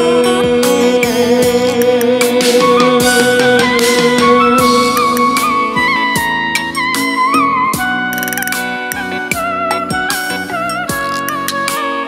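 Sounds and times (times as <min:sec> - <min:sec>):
instrumental bolero music: 0:00.5 - 0:12.0.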